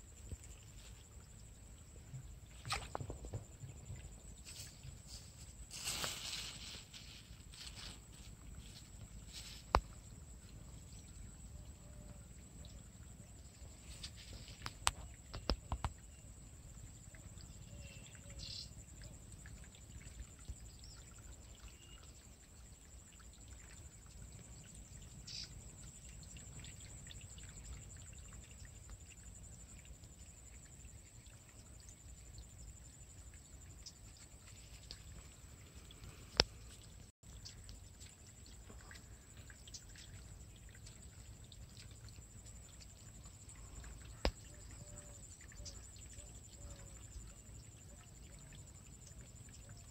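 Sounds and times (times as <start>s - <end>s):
faint bird chirps: 0.0s - 29.8s, 30.4s - 49.9s.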